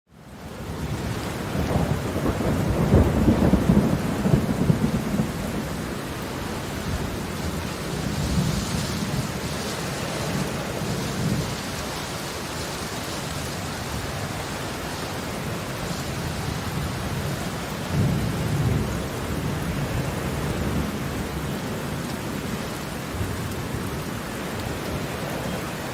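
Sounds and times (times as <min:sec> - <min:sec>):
heavy rain: 0:00.1 - 0:25.9
low thunder rumble: 0:00.8 - 0:11.9, 0:15.4 - 0:25.9.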